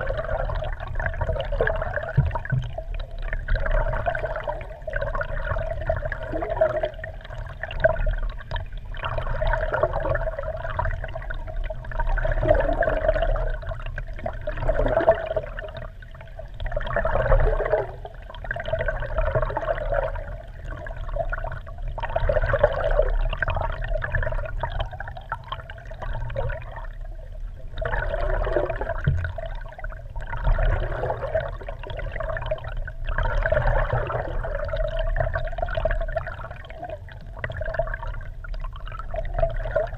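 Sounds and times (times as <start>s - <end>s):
muffled underwater water rushing: 0.0s - 39.9s.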